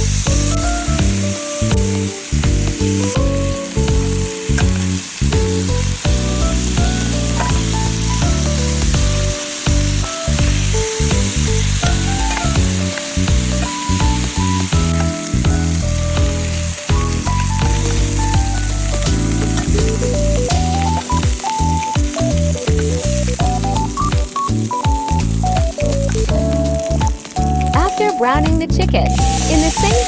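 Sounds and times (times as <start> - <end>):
chicken sizzling in hot oil: 0.0 - 28.4, 29.1 - 30.0
background music: 0.0 - 30.0.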